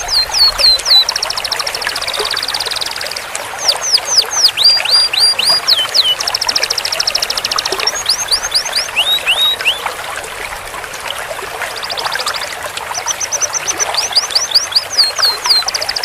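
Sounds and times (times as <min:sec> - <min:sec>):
canary singing: 0:00.0 - 0:09.8, 0:11.8 - 0:16.0.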